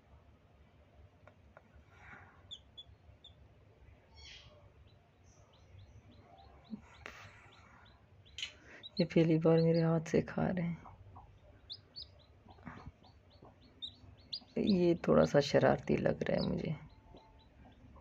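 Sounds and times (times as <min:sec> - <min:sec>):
chicks peeping: 0:02.4 - 0:03.4, 0:04.2 - 0:18.0.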